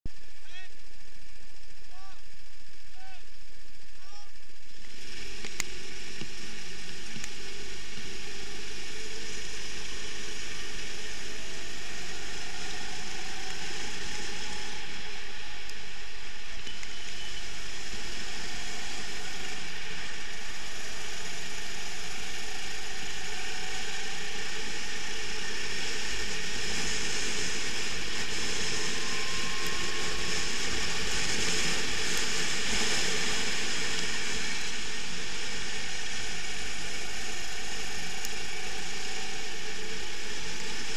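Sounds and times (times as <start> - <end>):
kart engine rattle and hiss: 0.8 - 40.9.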